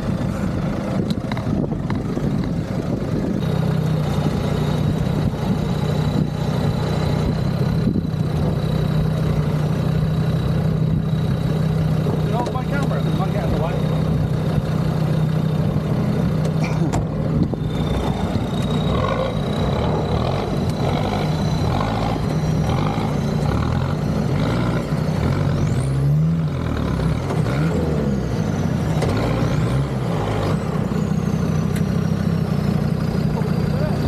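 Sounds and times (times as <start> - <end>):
engine running and revving: 0.0 - 34.0.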